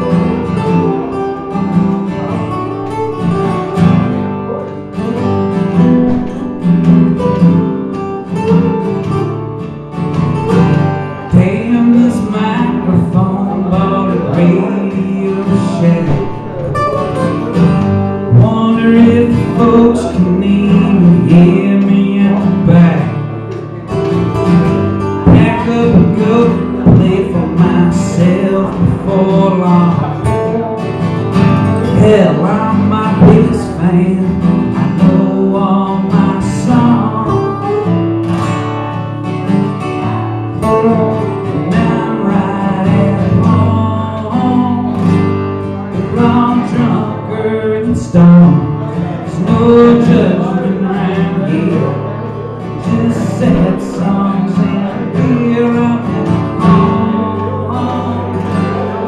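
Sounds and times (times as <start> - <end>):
acoustic guitars strumming: 0.0 - 59.0.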